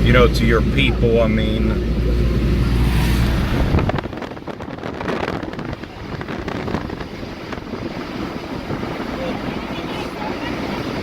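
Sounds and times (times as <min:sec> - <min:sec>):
loud low rumble: 0:00.0 - 0:09.7
vehicle driving on road: 0:00.0 - 0:11.0.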